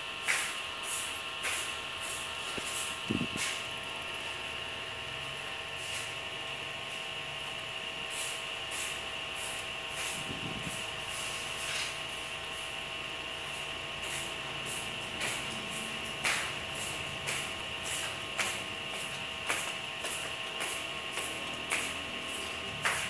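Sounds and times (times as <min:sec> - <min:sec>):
electrical hum and hiss: 0:00.0 - 0:23.0.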